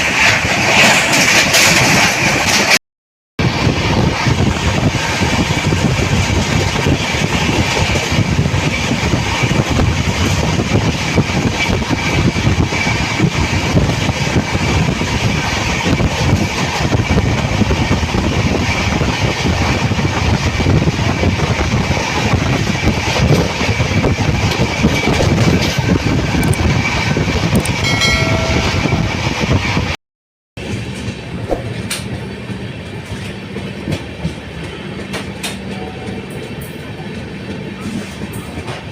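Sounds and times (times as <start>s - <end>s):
train rolling rumble: 0.0s - 2.8s, 3.4s - 30.0s, 30.6s - 38.9s.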